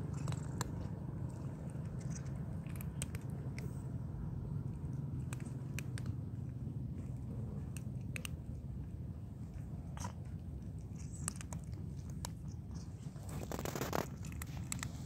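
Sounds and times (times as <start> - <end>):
cats crunching dry kibble: 0.0 - 15.0
steady low hum: 0.0 - 15.0.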